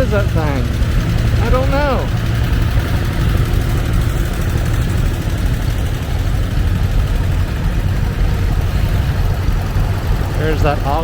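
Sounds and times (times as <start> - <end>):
tractor engines rumbling: 0.0 - 11.0.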